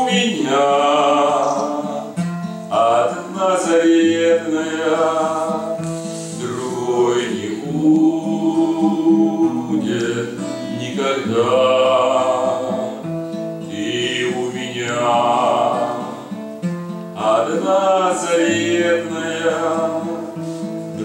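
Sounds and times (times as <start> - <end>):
man singing a slow song: 0.0 - 16.5, 17.2 - 21.0
acoustic guitar strumming: 0.0 - 21.0.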